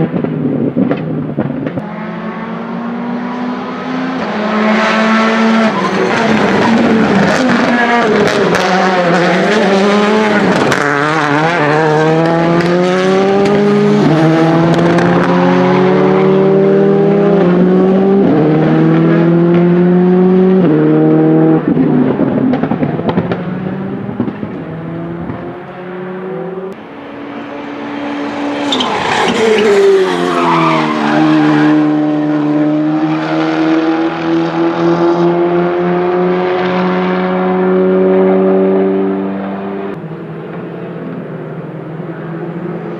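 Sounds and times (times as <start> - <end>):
rally car accelerating through gears: 0.0 - 42.9
rally car passing loudly: 0.0 - 42.9.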